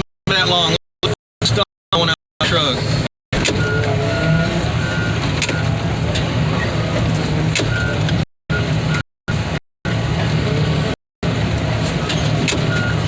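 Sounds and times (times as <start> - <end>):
diesel engine running: 0.3 - 13.0.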